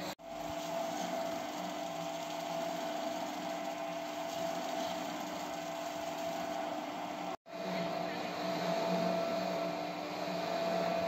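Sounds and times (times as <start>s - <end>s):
machine hum with steady tones: 0.0s - 11.0s.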